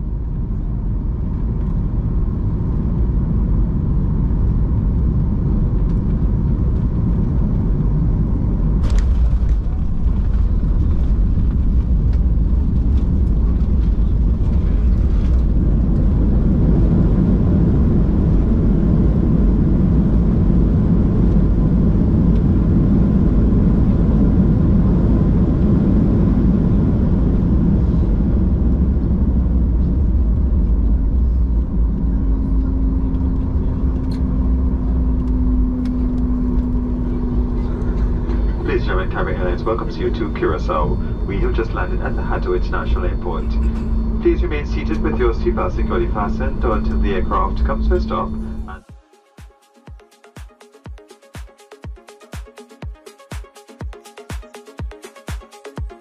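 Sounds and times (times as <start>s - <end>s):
runway rollout rumble: 0.0s - 48.9s
jet engines and airflow rumble: 0.0s - 56.0s.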